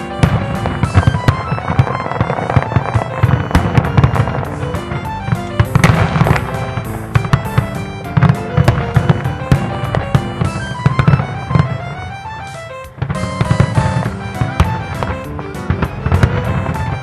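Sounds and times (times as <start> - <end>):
distant fireworks bursting: 0.0 - 17.0
ragtime tune: 0.0 - 17.0.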